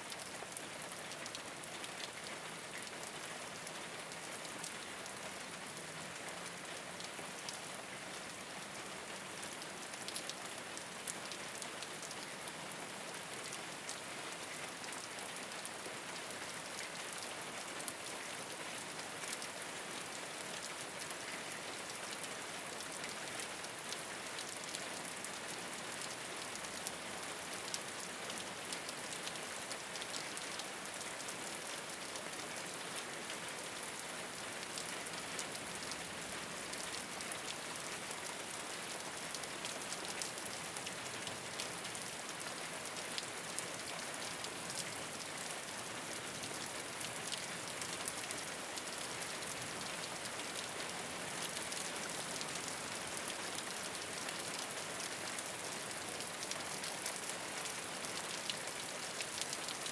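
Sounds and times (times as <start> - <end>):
rain on a rooftop: 0.0 - 59.9.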